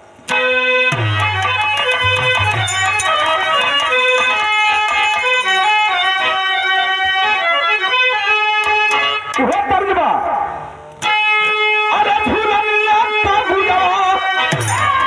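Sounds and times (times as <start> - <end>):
keyboard melody: 0.1 - 9.6, 10.5 - 15.0.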